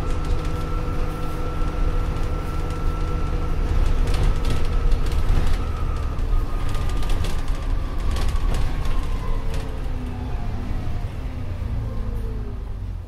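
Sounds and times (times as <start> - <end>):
bus engine rumble with whine: 0.0 - 13.0.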